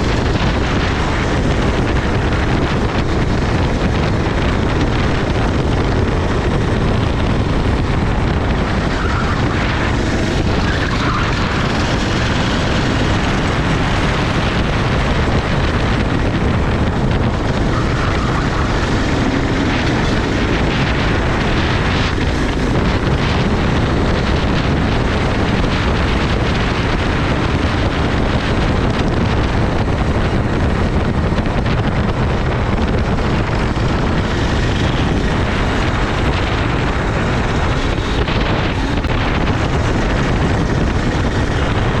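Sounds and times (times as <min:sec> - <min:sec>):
go-kart engine: 0:00.0 - 0:42.0
wind rushing over microphone: 0:00.0 - 0:42.0.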